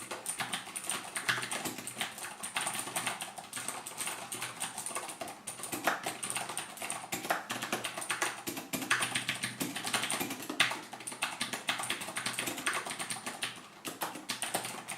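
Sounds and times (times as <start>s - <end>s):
clicky keyboard typing: 0.0s - 14.9s.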